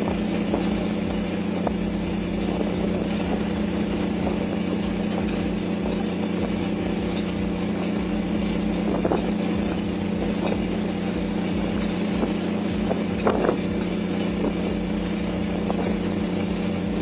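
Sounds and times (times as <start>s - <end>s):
boat machinery droning: 0.0s - 17.0s
water rushing along hull: 0.0s - 17.0s.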